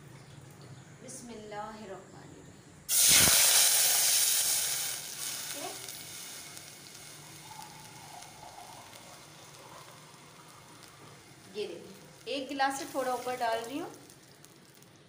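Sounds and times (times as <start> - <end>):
water sizzling in hot oil: 2.9 - 15.0.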